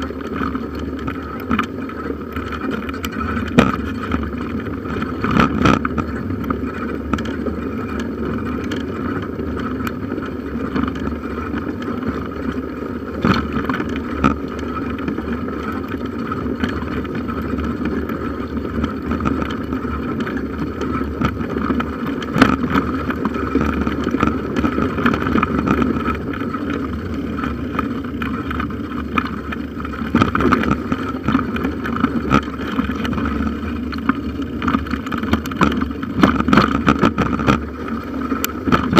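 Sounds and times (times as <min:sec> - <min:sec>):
bike and tyres rumbling and rattling: 0:00.0 - 0:38.9.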